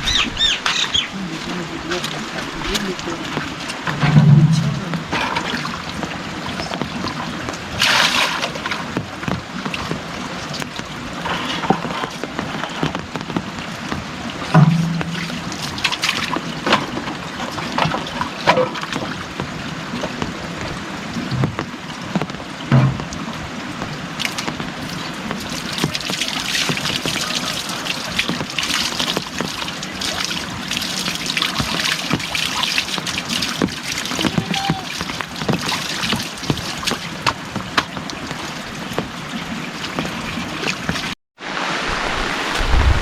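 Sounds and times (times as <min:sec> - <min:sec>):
heavy rain falling: 0:00.0 - 0:43.0
water trickling: 0:00.0 - 0:43.0.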